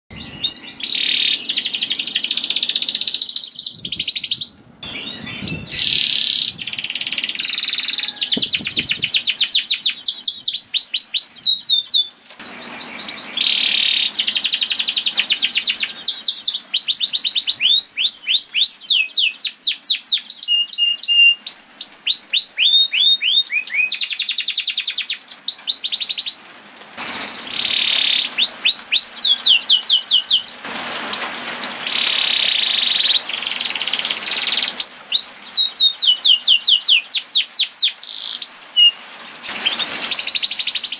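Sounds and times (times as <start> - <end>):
canary singing trills: 0.1 - 26.4, 27.2 - 30.6, 31.2 - 40.9.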